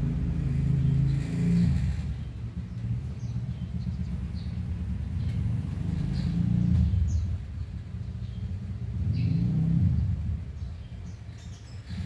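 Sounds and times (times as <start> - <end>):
low engine rumble: 0.0 - 12.0
small birds chirping: 0.1 - 12.0.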